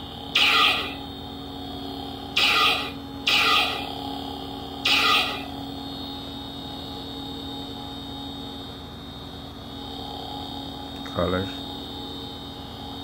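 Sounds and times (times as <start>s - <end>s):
electronic idle hum: 0.0s - 13.0s.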